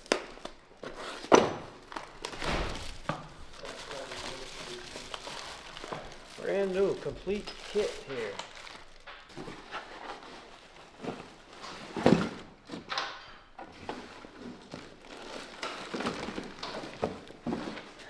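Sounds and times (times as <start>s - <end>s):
packaging rustling: 0.0s - 13.0s, 13.6s - 18.0s.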